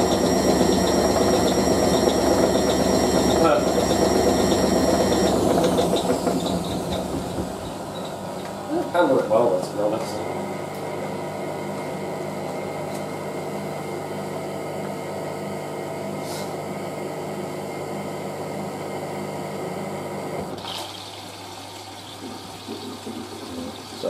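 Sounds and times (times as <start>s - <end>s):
drain pump humming: 0.0s - 24.0s.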